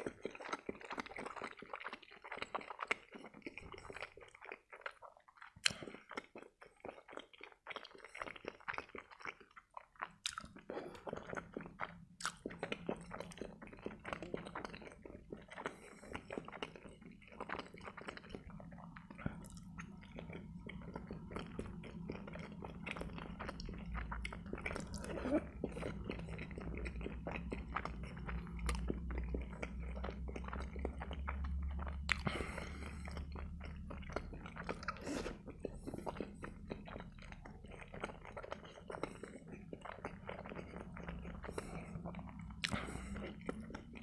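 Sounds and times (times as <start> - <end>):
wet chewing sounds: 0.0 - 44.0.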